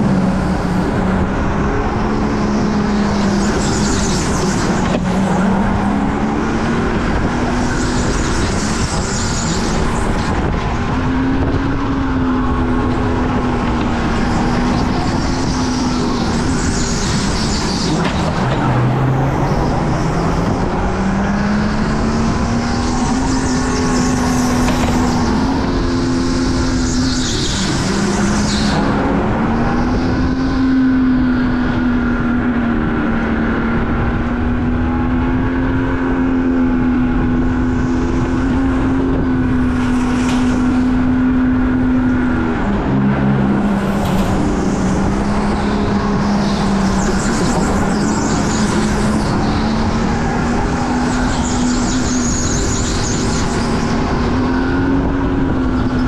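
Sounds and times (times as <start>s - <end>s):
go-kart motor running: 0.0s - 56.0s.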